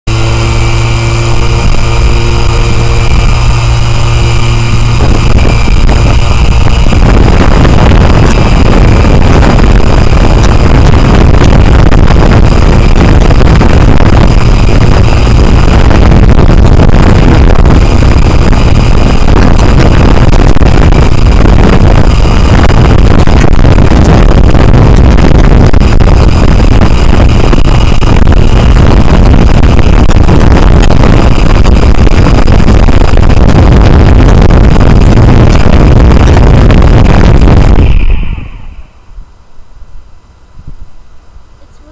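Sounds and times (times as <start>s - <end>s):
loud rushing noise: 0.1s - 41.0s
drone motors humming: 0.1s - 41.9s.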